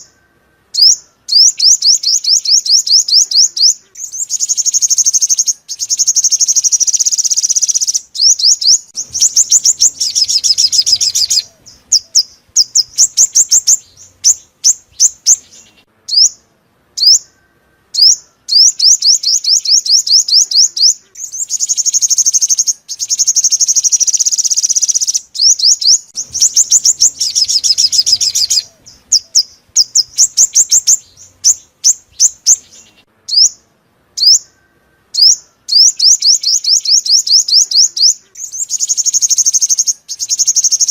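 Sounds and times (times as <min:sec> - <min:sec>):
bird trills and chirps: 0:00.0 - 0:40.9.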